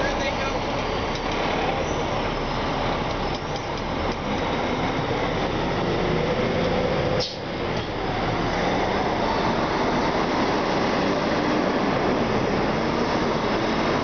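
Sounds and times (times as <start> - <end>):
truck rumbling past: 0.0 - 14.0.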